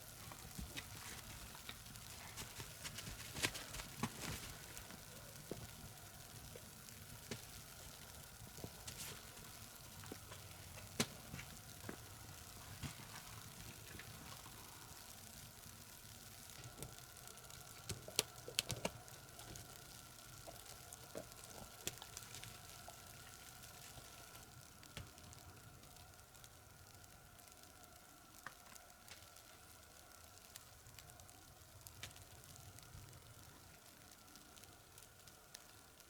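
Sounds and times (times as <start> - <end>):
low steady hiss: 0.0 - 36.0
wood fire crackling and popping: 0.0 - 36.0.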